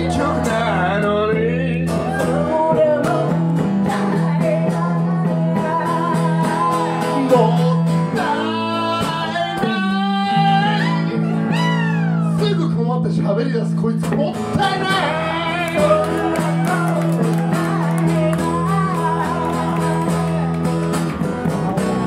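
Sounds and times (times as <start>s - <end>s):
man singing: 0.0s - 20.6s
acoustic guitar: 0.0s - 22.0s
electric bass: 0.0s - 22.0s.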